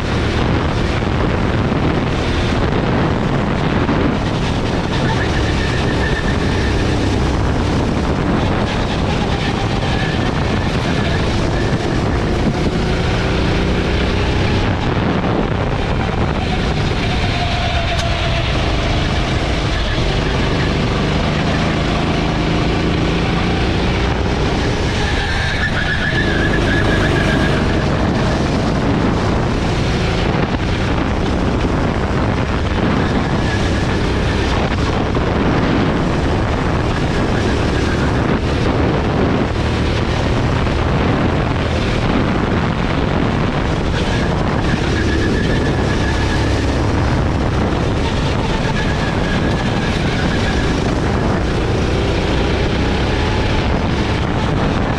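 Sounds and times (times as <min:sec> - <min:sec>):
go-kart engine revving: 0:00.0 - 0:54.9
wind rushing on a camera: 0:00.0 - 0:54.9.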